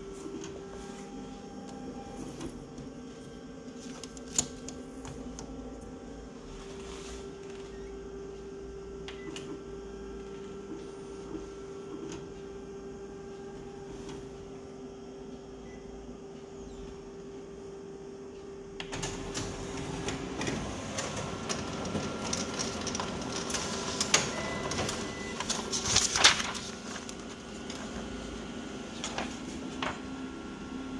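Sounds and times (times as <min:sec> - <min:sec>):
copier humming: 0:00.0 - 0:30.9
copier whirring and clicking: 0:00.0 - 0:30.9.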